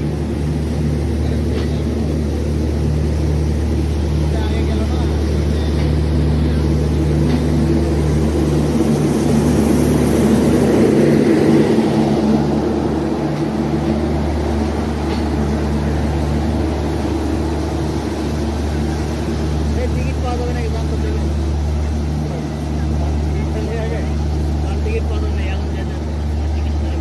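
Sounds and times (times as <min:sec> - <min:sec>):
diesel generator drone: 0:00.0 - 0:27.0
train rolling past: 0:00.0 - 0:27.0.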